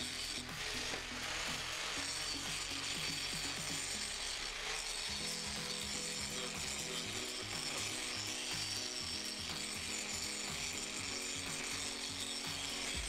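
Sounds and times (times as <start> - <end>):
background music with bass line: 0.0 - 4.0, 5.1 - 13.0
angle grinder grinding steel: 0.0 - 13.0.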